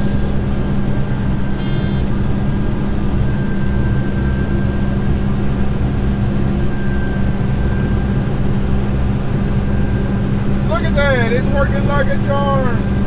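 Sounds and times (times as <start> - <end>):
engine and machinery drone: 0.0 - 13.0.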